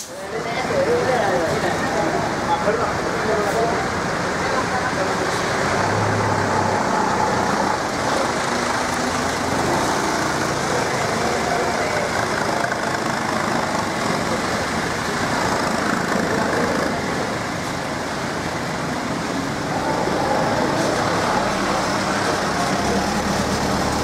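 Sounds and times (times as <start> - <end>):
diesel bus engine driving away: 0.0 - 24.0
traffic noise: 0.0 - 24.0.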